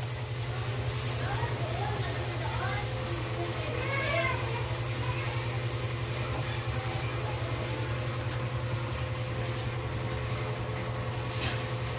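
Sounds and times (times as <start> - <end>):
washing machine motor hum: 0.0 - 11.9.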